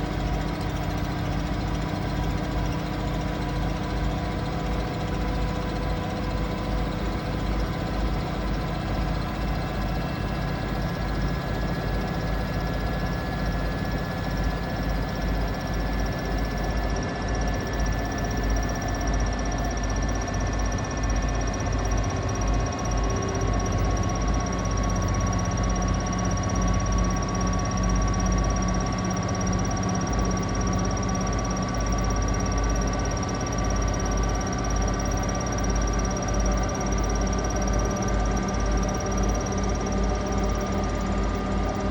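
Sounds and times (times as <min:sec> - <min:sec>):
motor whine: 0:00.0 - 0:41.9.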